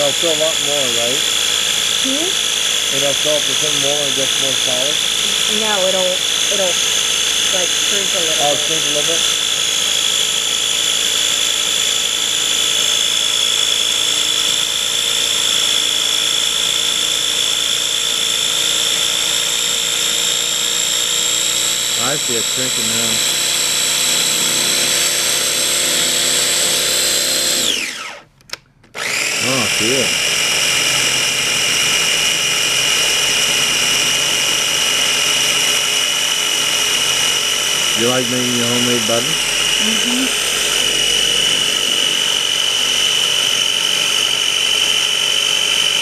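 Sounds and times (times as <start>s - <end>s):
food processor motor whining: 0.0s - 46.0s.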